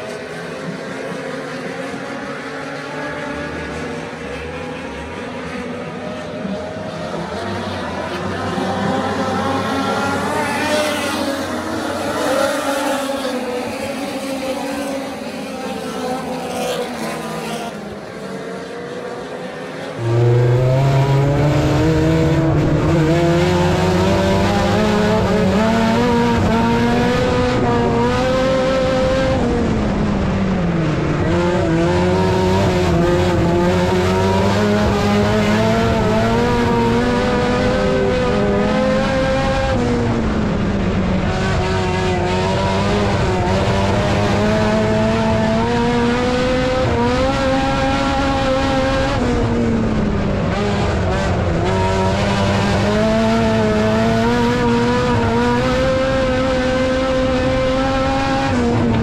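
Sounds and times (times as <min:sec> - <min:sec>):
race car engine at speed: 0:00.0 - 0:59.0
race cars running: 0:00.0 - 0:59.0.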